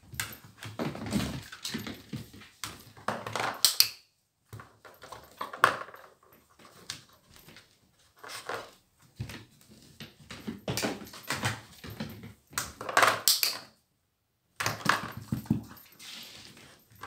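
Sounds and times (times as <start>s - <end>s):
dog paws on floor mat: 0.0s - 3.2s, 4.5s - 12.9s, 14.8s - 17.0s.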